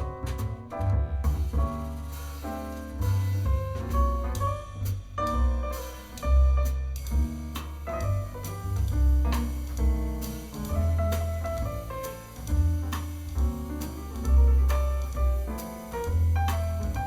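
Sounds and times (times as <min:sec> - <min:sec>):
double bass: 0:00.0 - 0:17.0
drum kit with cymbals: 0:00.0 - 0:17.0
jazz piano melody: 0:00.0 - 0:17.0.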